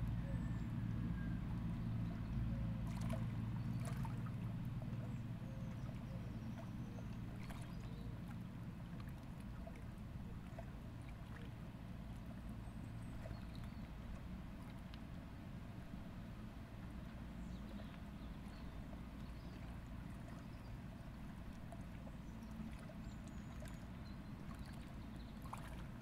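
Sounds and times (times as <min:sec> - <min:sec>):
distant engine hum: 0:00.0 - 0:26.0.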